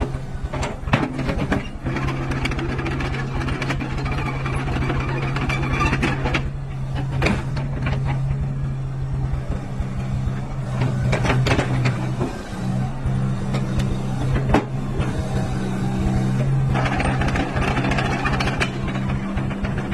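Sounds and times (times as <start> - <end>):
excavator diesel engine running: 0.0 - 19.9
machine knocks and clanks: 0.0 - 19.9.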